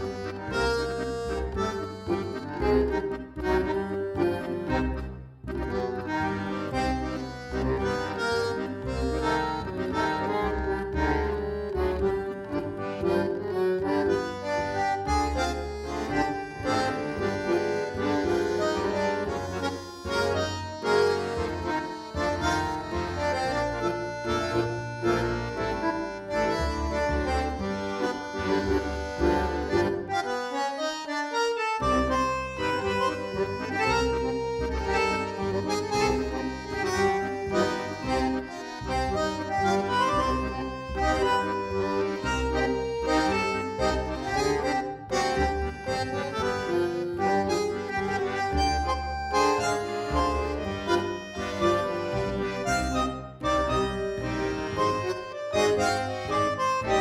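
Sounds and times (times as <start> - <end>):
rhythmic bass line: 0.0 - 30.4, 31.8 - 57.0
accordion tango music: 0.0 - 57.0.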